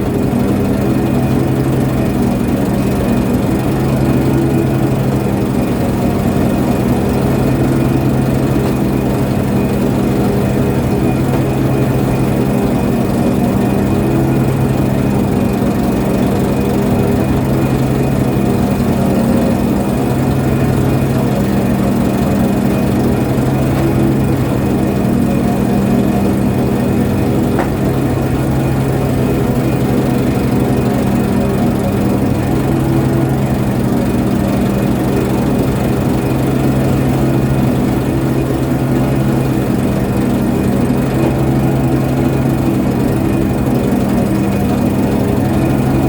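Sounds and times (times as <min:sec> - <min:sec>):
ship engine deep hum: 0:00.0 - 0:46.0.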